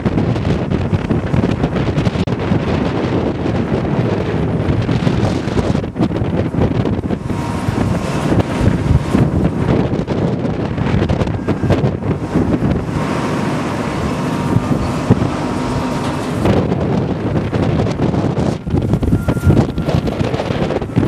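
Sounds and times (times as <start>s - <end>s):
wind gusting on microphone: 0.0s - 21.0s.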